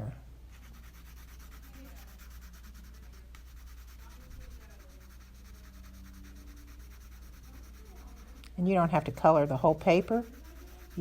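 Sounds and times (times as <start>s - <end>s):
low steady hum: 0.0s - 11.0s
colouring tool scratching on paper: 0.5s - 11.0s.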